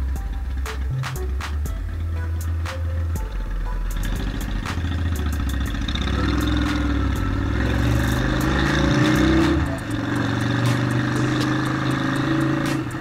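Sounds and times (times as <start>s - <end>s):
motorcycle engine shifting gear: 0.0s - 13.0s.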